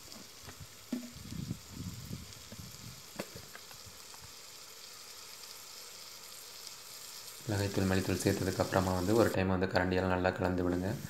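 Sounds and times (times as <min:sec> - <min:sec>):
vegetables sizzling in oil: 0:00.0 - 0:09.4.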